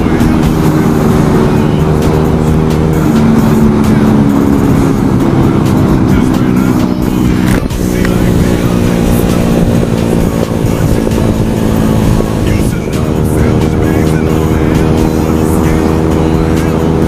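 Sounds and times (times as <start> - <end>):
background music: 0.0 - 17.0
scooter engine running: 0.0 - 17.0.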